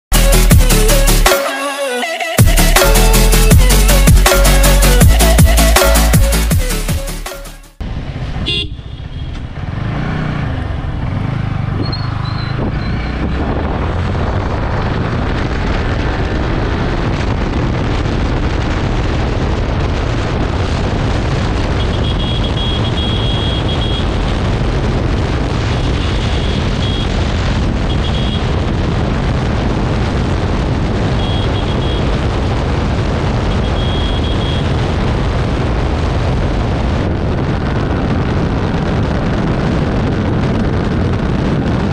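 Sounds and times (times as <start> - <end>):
motorcycle engine accelerating: 7.8 - 41.9
wind rushing over microphone: 7.8 - 41.9.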